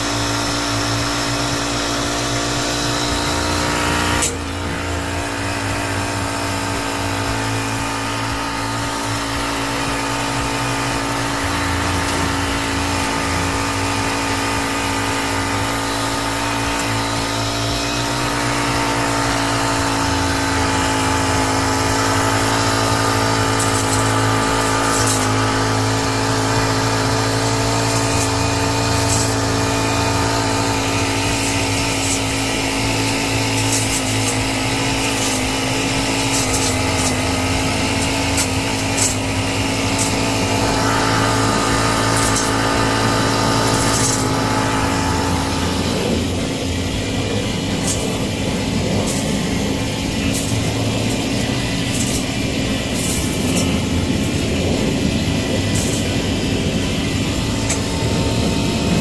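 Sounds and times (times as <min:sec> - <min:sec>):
garden trimmer engine running: 0:00.0 - 0:59.0.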